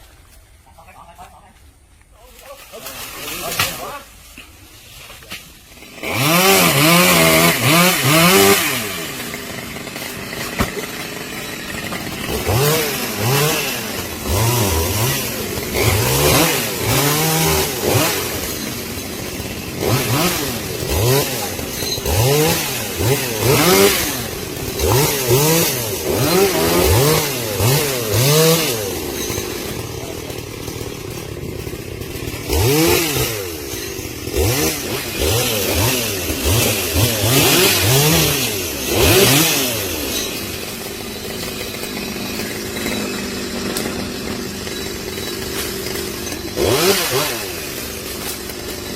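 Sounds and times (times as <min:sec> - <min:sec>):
chainsaw engine revving: 0:05.6 - 0:48.9.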